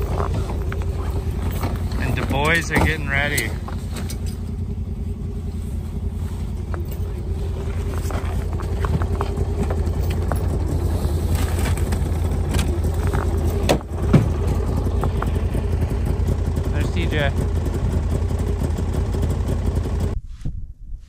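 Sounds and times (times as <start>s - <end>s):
engine idling: 0.0s - 20.2s
gear knocking and clunking: 0.0s - 20.2s.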